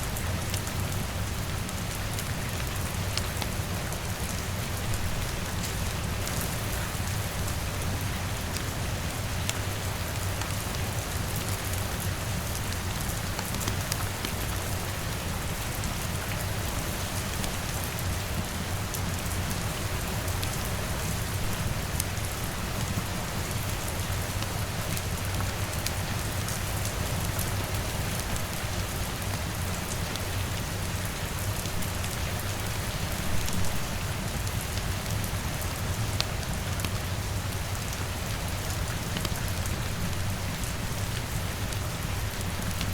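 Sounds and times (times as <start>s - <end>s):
rain on a window: 0.0s - 42.9s.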